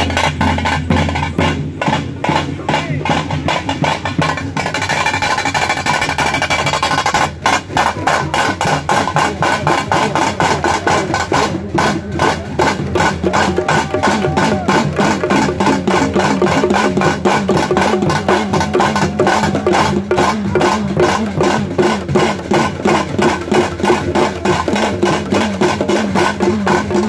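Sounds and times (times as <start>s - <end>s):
fast steady drumming: 0.0s - 27.0s.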